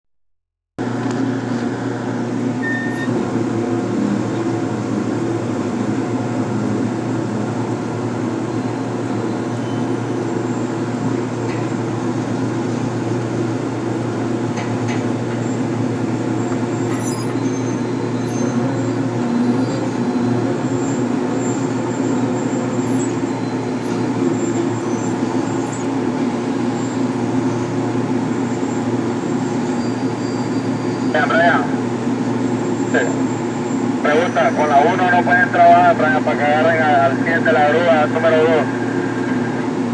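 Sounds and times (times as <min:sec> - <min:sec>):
diesel engine humming: 0:00.8 - 0:39.9.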